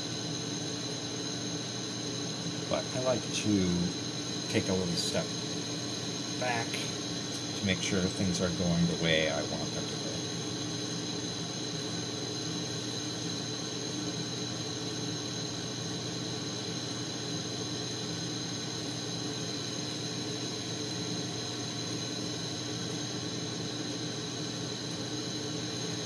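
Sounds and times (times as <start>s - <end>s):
glassworking torch hissing: 0.0s - 26.0s.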